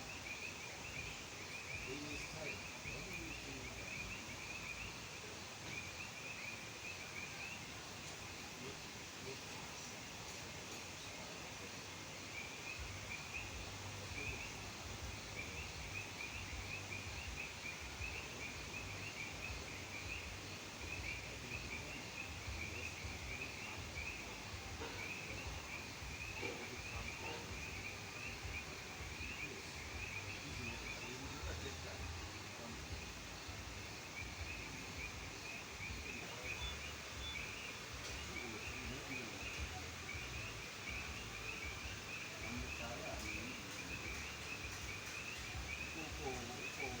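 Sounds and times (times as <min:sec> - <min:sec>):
frogs chirping: 0:00.0 - 0:47.0.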